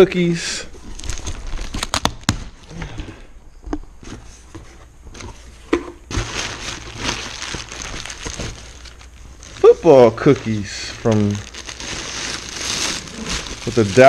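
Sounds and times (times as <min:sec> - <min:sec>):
packaging rustling and crinkling: 0:00.7 - 0:02.7, 0:04.0 - 0:14.0.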